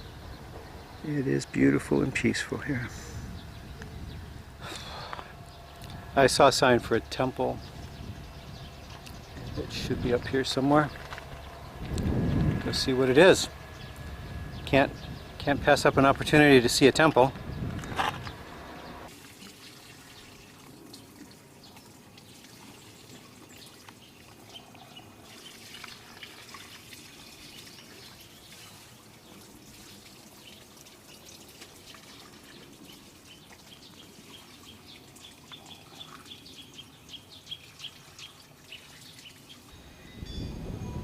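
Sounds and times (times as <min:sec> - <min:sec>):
birds chirping: 0:00.0 - 0:22.4, 0:23.0 - 0:41.0.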